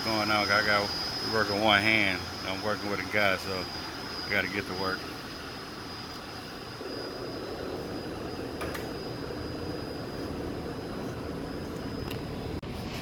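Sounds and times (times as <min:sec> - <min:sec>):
high steady whine: 0:00.0 - 0:13.0.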